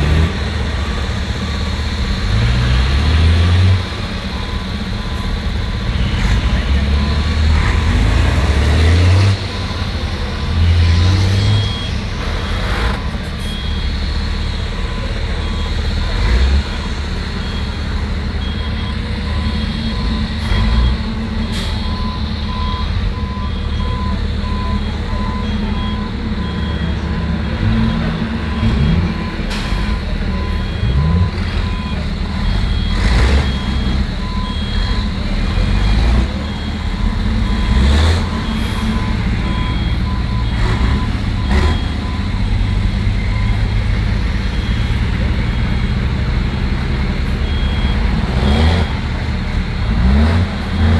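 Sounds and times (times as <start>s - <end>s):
heavy truck engines running: 0.0s - 50.9s
reversing alarm beeping: 0.0s - 50.9s.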